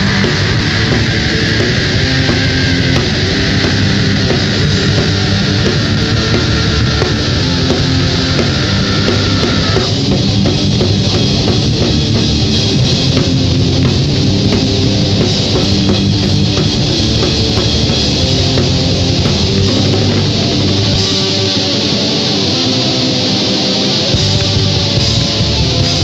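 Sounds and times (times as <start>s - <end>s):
rock band playing live: 0.0s - 26.0s
sustained high guitar line: 0.0s - 26.0s.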